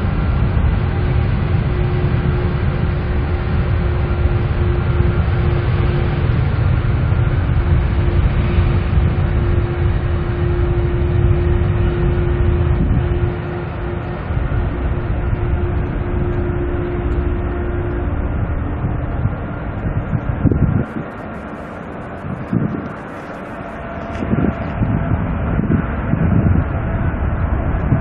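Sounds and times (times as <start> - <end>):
jet engines rumbling: 0.0 - 28.0
steady engine hum: 0.0 - 28.0.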